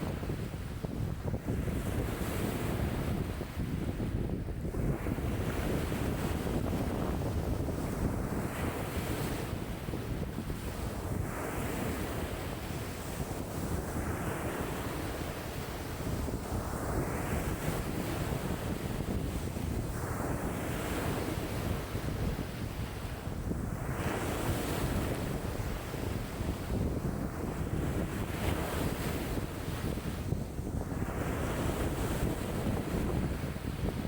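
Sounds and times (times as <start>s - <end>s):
lake waves washing in: 0.0s - 34.0s
wind rumbling on microphone: 0.0s - 34.0s.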